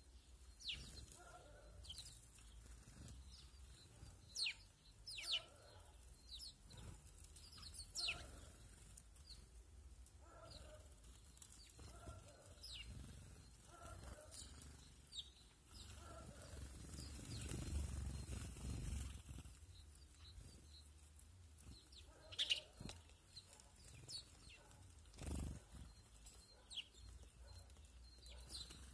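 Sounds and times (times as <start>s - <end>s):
small birds calling: 0.0s - 28.9s.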